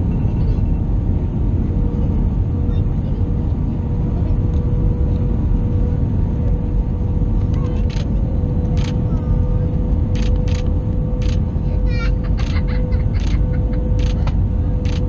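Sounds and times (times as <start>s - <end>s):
airplane cabin engine rumble: 0.0s - 15.0s
steady hum: 0.0s - 15.0s.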